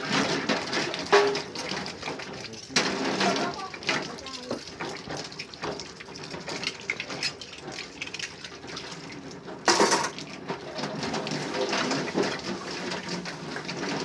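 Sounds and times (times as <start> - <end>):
dishes clinking and knocking: 0.0 - 7.5, 9.6 - 14.0
tap water running and splashing: 0.0 - 14.0.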